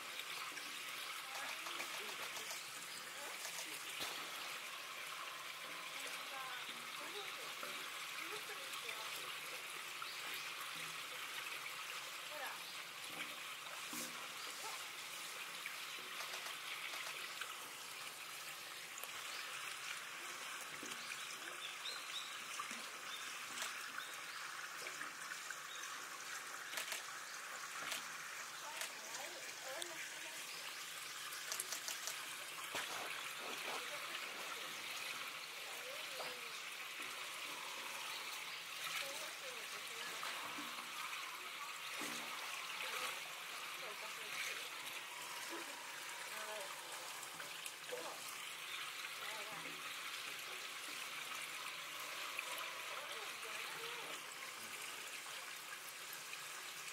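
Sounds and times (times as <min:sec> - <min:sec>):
trickle of running water: 0:00.0 - 0:56.9.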